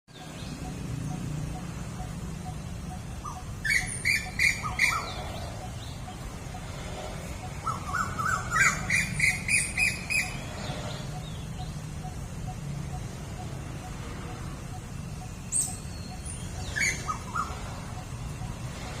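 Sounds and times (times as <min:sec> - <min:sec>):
birds squawking harshly: 0:01.5 - 0:18.9.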